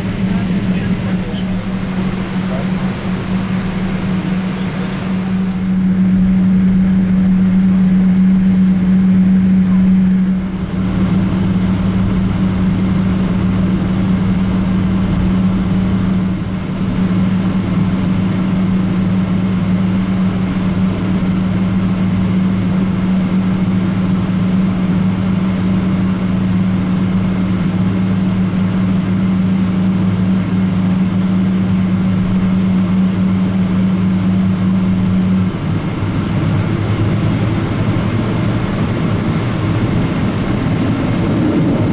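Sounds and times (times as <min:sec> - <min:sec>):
jet engines humming in cabin: 0:00.0 - 0:41.9.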